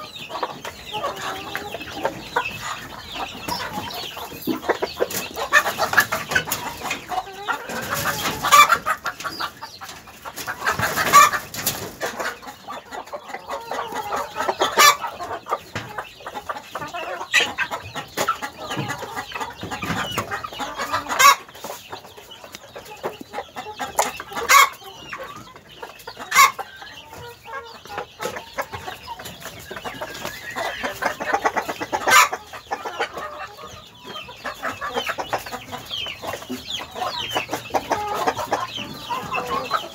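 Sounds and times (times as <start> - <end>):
chickens clucking: 0.0 - 39.9
sharp loud chicken calls: 0.0 - 39.9.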